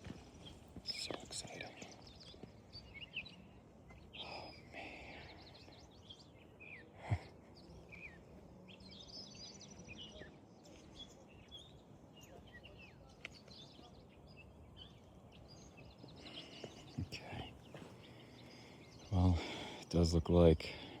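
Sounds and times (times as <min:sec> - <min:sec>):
birds chirping and calling: 0:00.0 - 0:21.0
faint outdoor hiss: 0:00.0 - 0:21.0.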